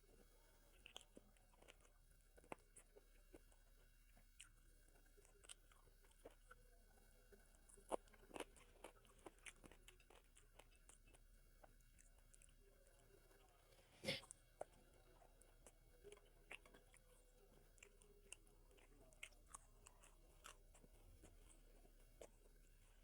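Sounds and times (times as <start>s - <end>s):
person chewing food: 0.7s - 6.7s, 7.5s - 23.0s.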